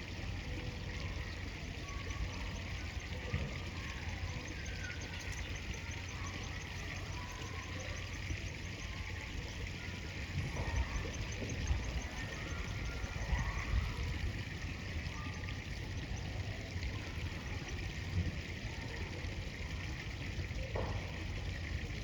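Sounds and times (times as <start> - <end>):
faint high ticking: 0.1 - 21.9.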